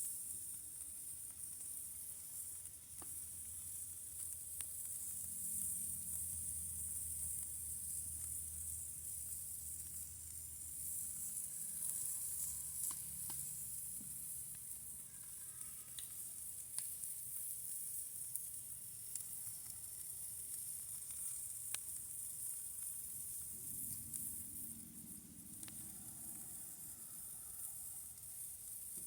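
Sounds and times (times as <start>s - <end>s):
patties sizzling over campfire: 0.0s - 29.0s.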